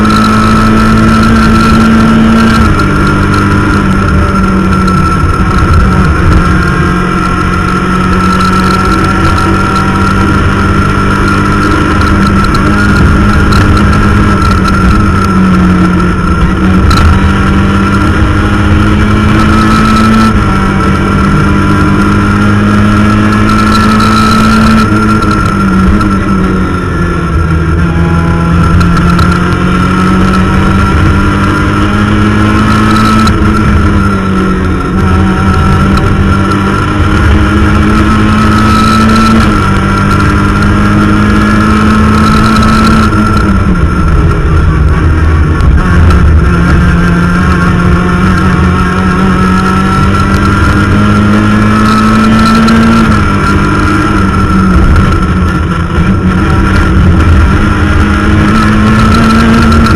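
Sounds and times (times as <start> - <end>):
rally car engine at high revs: 0.0 - 59.9.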